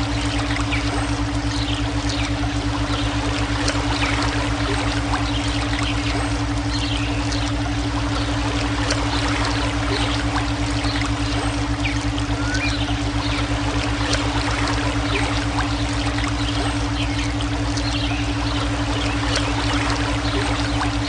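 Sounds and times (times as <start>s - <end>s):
low pulsing throb: 0.0s - 21.0s
steady synthetic hum: 0.0s - 21.0s
water trickling: 0.0s - 21.0s.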